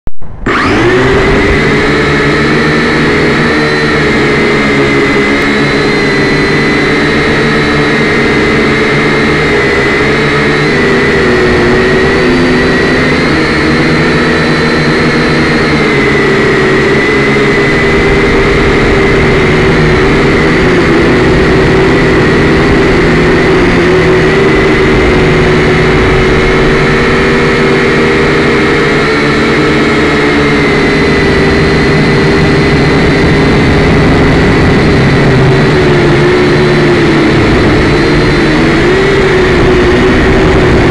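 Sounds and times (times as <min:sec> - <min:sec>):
drone propellers whining: 0:00.2 - 0:40.9.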